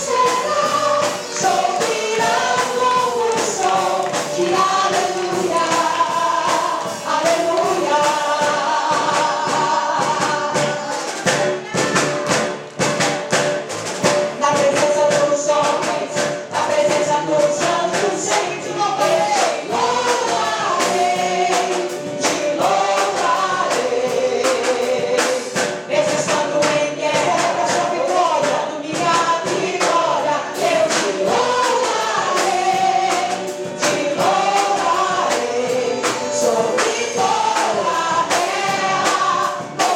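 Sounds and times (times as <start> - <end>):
upbeat gospel song with choir: 0.0 - 39.9.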